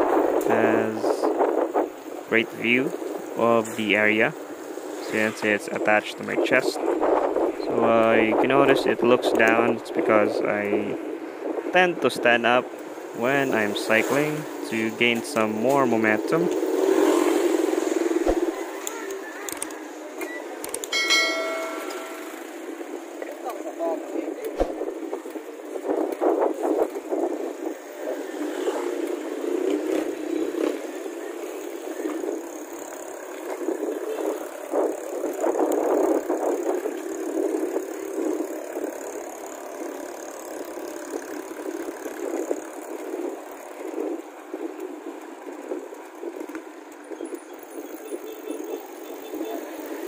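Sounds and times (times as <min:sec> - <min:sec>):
bike riding rumble on concrete: 0:00.0 - 0:50.0.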